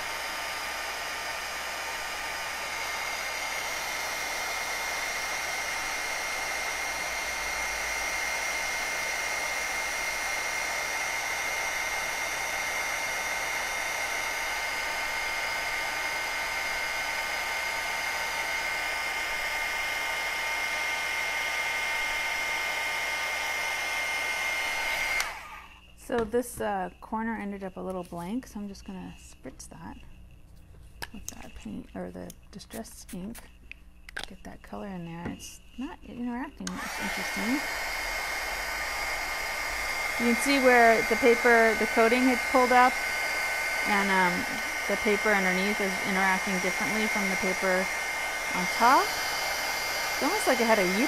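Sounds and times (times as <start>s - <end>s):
heat tool fan blowing with whine: 0.0s - 33.5s, 34.6s - 51.0s.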